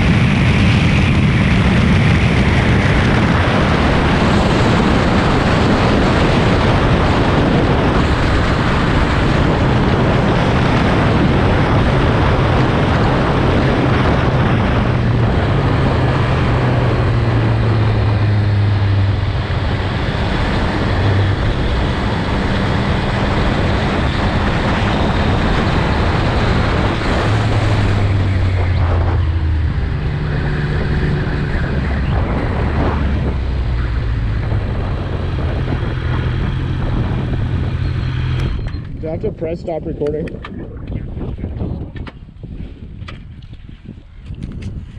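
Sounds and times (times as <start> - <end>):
motorcycle engine revving: 0.0 - 40.7
wind rushing over microphone: 0.0 - 44.9.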